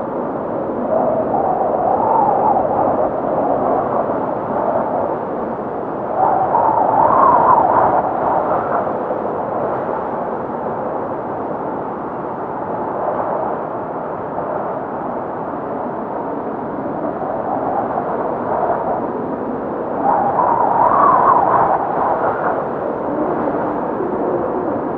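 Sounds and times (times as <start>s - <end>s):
blizzard wind blowing hard: 0.0s - 24.9s.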